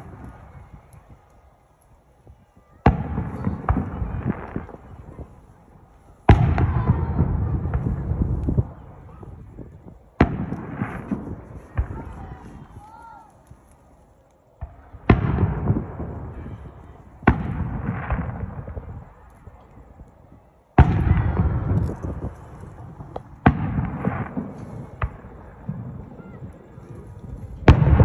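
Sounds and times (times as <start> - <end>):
sharp firework cracks: 0.0 - 13.8, 14.6 - 28.0
firework shells booming: 2.6 - 12.6, 14.6 - 20.0, 20.7 - 28.0.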